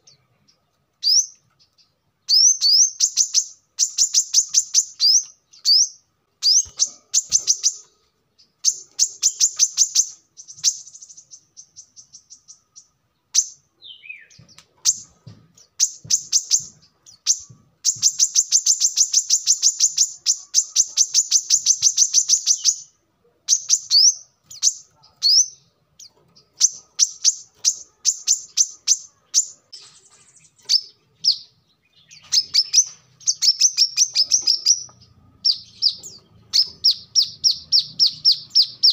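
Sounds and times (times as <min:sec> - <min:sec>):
bird singing high trills: 0:02.3 - 0:38.9.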